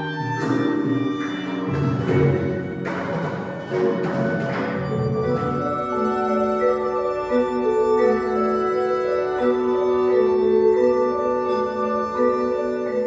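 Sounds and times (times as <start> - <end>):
organ-like chords: 0.0 - 13.0.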